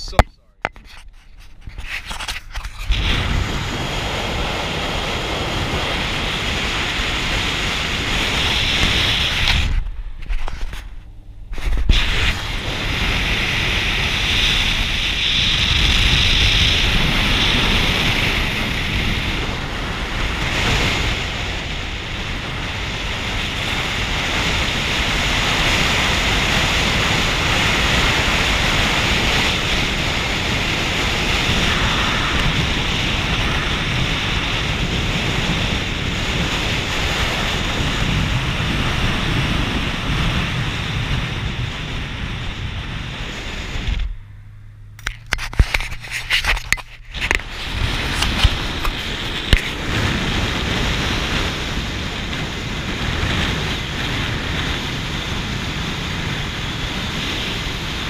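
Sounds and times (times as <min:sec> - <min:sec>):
road rumble: 0:00.0 - 0:58.0
wind buffeting microphone: 0:00.0 - 0:58.0.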